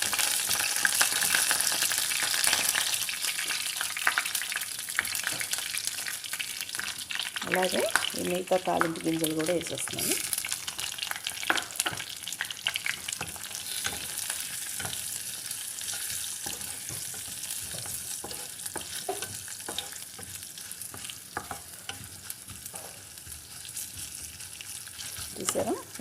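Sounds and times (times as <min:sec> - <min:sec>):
oil sizzling in a pan: 0:00.0 - 0:26.0.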